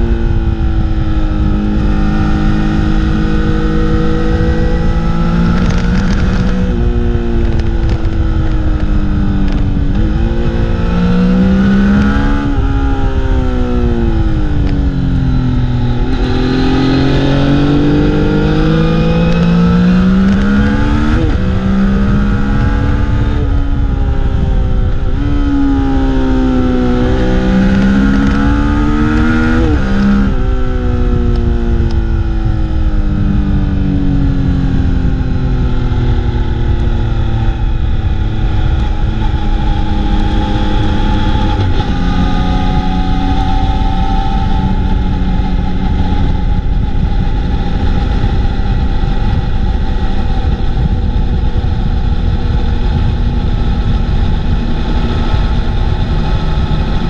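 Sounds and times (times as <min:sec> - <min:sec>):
motorcycle engine revving: 0:00.0 - 0:57.0
wind rushing over microphone: 0:00.0 - 0:57.0.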